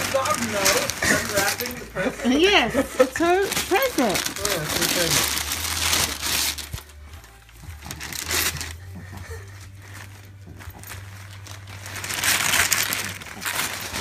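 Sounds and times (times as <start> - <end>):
wrapping paper crinkling: 0.0 - 14.0.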